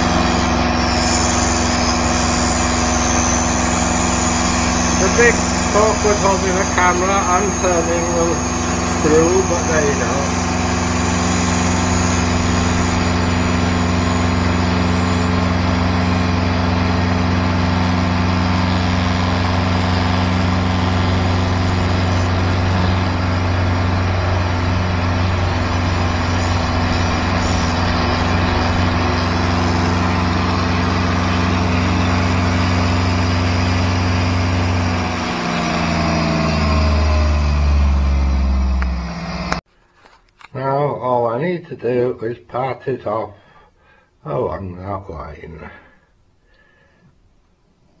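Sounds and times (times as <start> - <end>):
lathe motor humming: 0.0 - 39.7.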